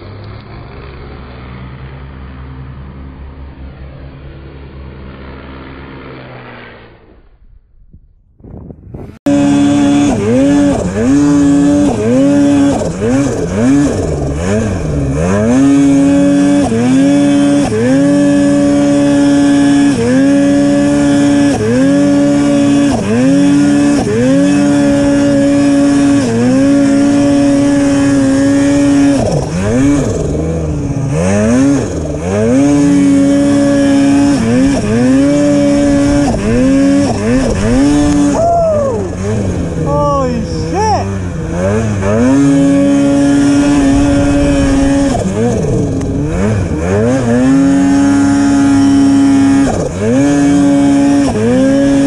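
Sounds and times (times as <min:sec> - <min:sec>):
snowmobile engine revving: 0:08.8 - 0:52.0.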